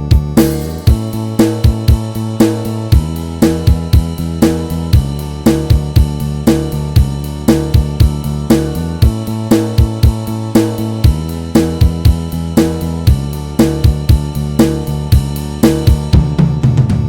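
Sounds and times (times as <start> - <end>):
drum kit beat: 0.0 - 17.0
sustained low notes: 0.0 - 17.0.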